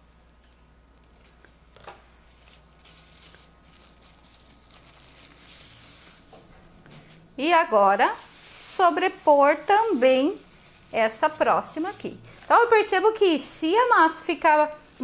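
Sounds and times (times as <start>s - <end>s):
plastic film rustling: 1.0s - 15.0s.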